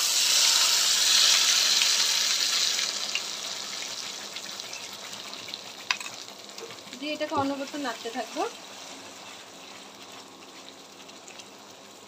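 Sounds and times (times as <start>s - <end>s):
paste sizzling in hot fat: 0.0s - 12.0s.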